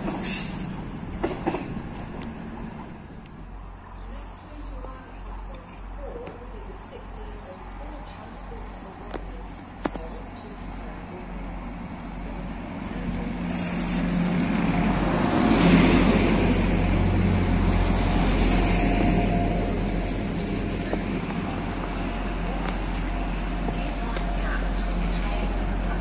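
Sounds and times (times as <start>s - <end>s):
diesel train rumble: 0.0s - 26.0s.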